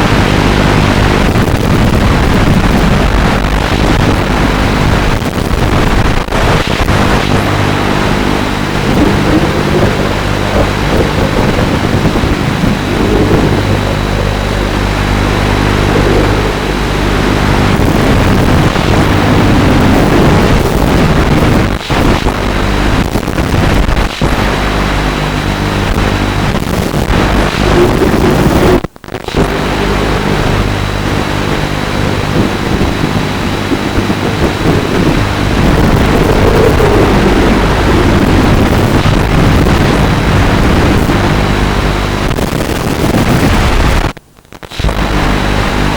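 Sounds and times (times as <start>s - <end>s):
drone motors buzzing: 0.0s - 44.1s, 44.7s - 45.9s.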